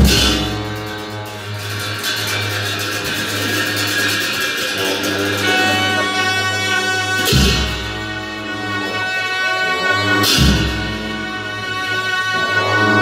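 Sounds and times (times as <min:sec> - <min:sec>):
higher held horn tones: 0:00.0 - 0:13.0
low drone of long horns: 0:00.4 - 0:13.0.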